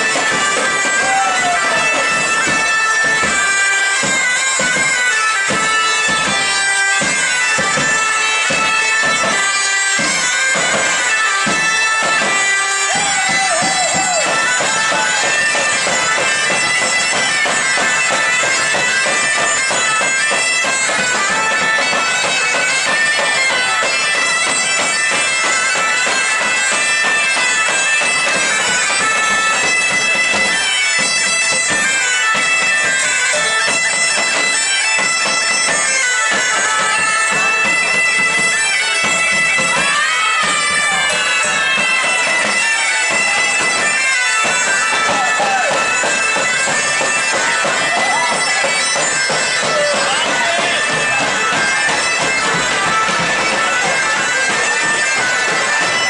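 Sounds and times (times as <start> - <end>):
live wind band playing: 0.0 - 56.0
regular beat: 0.0 - 56.0.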